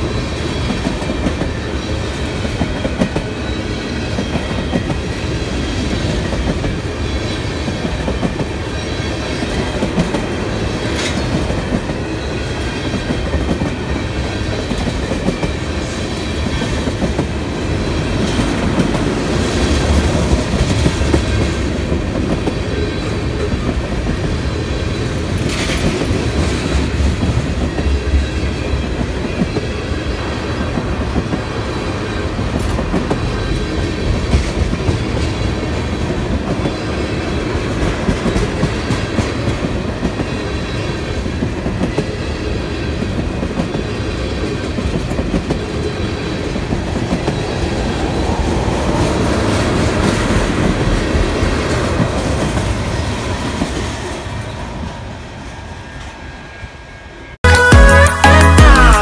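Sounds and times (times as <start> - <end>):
freight train wheels rumbling: 0.0 - 57.4.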